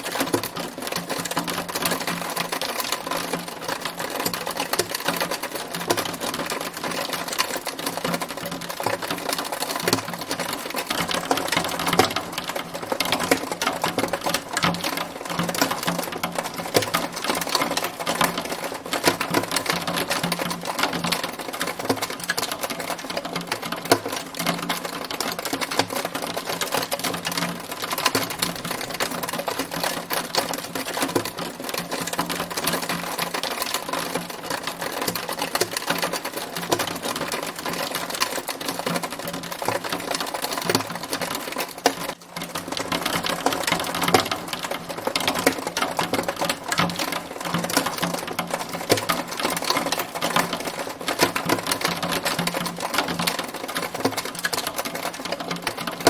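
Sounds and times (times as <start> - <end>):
hailstones pelting a hard surface: 0.0 - 56.0.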